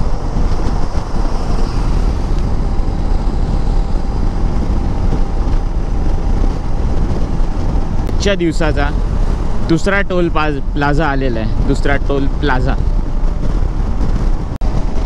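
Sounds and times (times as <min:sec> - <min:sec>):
motorcycle engine cruising: 0:00.0 - 0:15.0
wind rush on microphone: 0:00.0 - 0:15.0.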